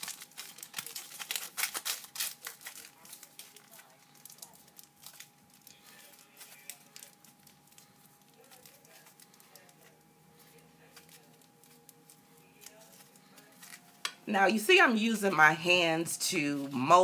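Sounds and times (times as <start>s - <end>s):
aluminium foil crinkling: 0.0s - 14.2s.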